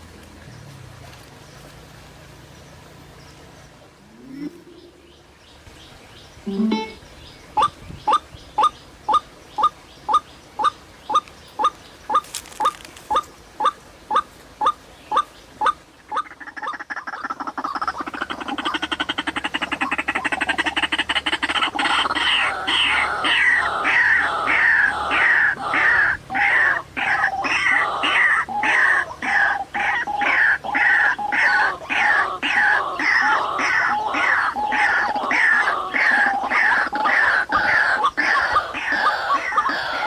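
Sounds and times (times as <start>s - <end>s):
waterhen calling: 2.8s - 40.0s.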